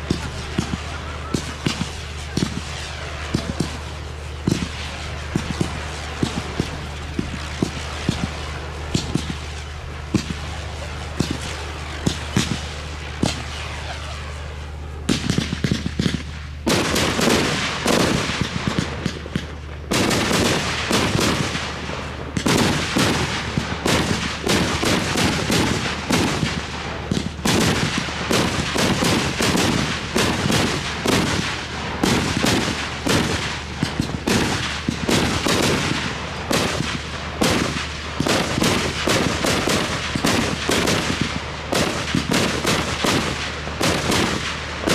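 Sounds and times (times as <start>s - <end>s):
fireworks bangs: 0.0s - 44.9s.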